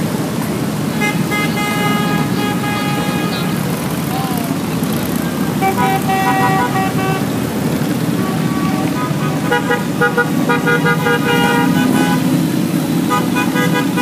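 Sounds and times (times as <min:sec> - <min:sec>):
engines rumbling: 0:00.0 - 0:14.0
vehicle horns tooting: 0:00.8 - 0:14.0.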